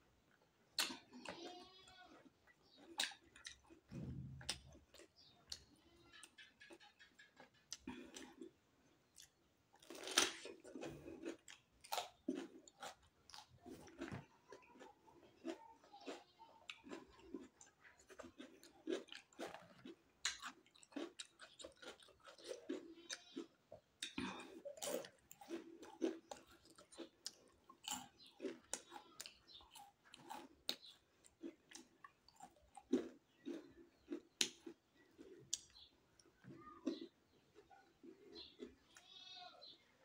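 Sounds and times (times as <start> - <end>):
person chewing crunchy food: 0.2 - 39.8.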